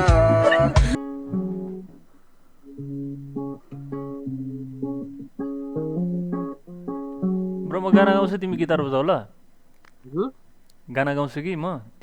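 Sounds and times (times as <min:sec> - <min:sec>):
guitar plucking slow melody: 0:00.0 - 0:10.6.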